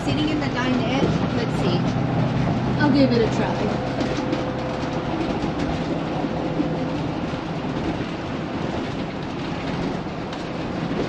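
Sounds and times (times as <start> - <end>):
road rumble inside vehicle: 0.0 - 11.0.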